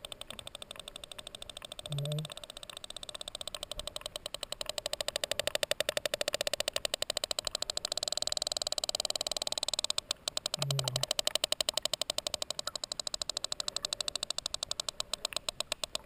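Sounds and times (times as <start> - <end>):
whale clicks underwater: 0.0 - 16.0.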